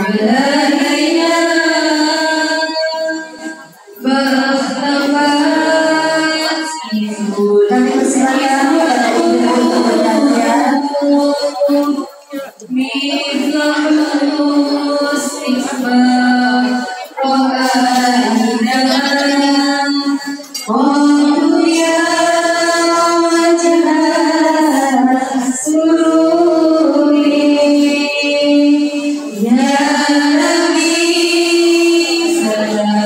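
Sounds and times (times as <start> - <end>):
woman singing slow melody: 0.0 - 33.0.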